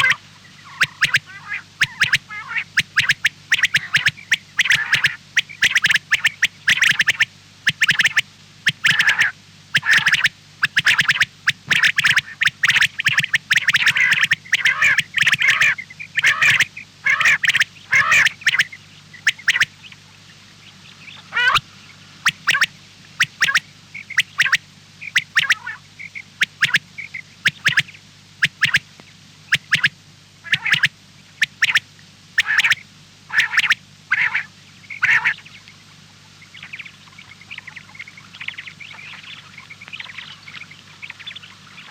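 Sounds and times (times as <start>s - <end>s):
birds squawking: 0.0s - 20.0s, 20.6s - 28.8s, 29.5s - 31.8s, 32.4s - 41.9s
low steady hum: 0.0s - 41.9s.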